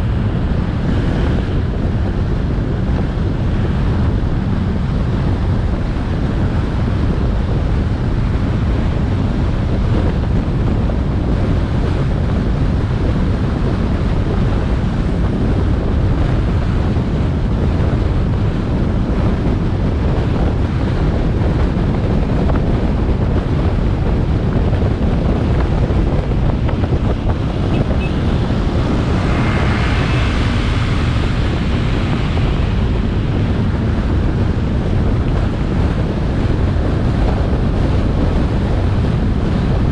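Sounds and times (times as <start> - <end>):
road and engine noise: 0.0 - 39.9
wind buffeting microphone: 0.0 - 39.9.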